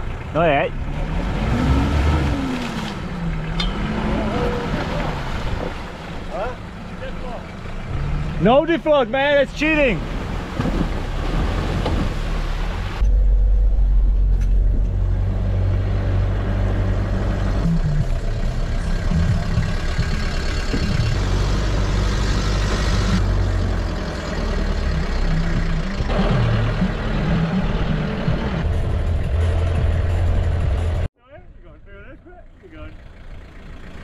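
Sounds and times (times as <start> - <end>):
vehicle engine low drone: 0.0 - 34.0.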